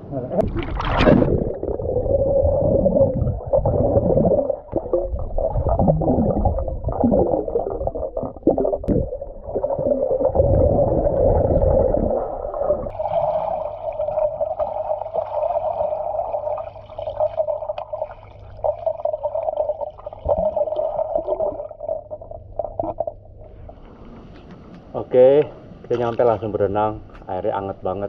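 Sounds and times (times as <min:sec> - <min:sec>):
underwater water churning and gurgling: 0:00.4 - 0:23.8.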